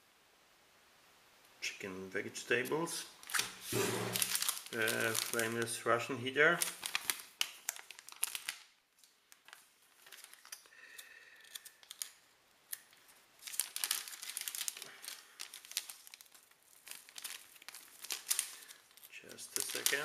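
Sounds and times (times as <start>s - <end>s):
plastic sleeve crinkling: 2.5s - 20.0s.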